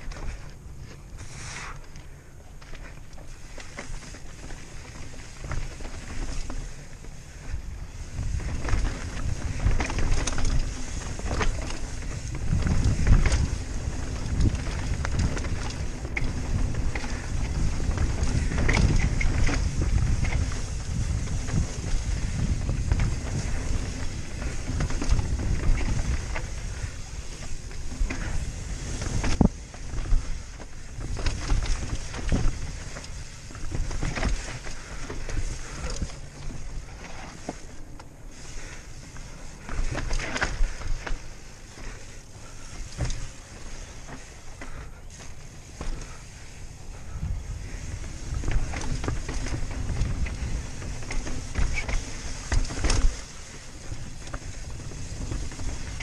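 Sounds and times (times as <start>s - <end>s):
mountain bike rattling: 0.0s - 56.0s
tyres crunching over gravel: 0.0s - 56.0s
wind rumbling on microphone: 0.0s - 56.0s.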